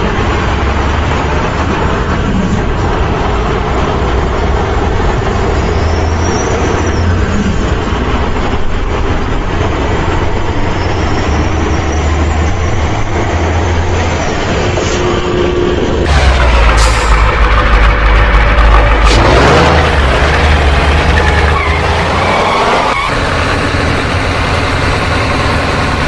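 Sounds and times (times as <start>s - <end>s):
heavy truck engine rumbling: 0.0s - 26.0s.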